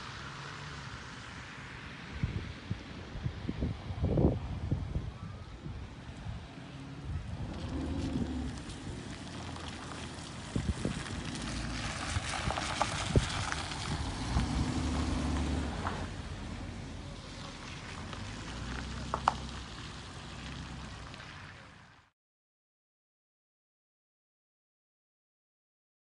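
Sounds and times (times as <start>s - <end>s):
engine hum: 0.0s - 22.1s
vehicle driving on wet road: 0.0s - 22.1s.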